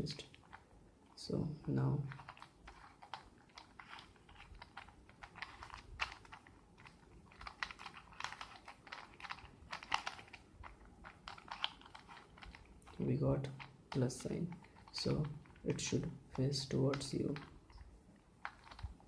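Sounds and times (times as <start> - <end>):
puzzle cube plastic clicks: 2.0 - 19.0.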